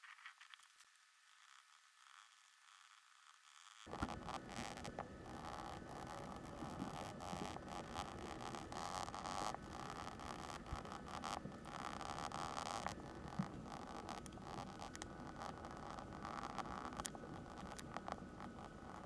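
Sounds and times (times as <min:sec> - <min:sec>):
oil pastel scratching on board: 0:01.4 - 0:19.0.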